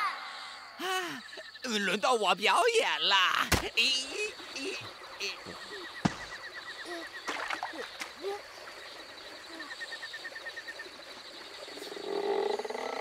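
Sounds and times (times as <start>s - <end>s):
pulsing insect trill: 0.0s - 13.0s
bird chirps: 0.1s - 2.1s, 3.7s - 12.2s.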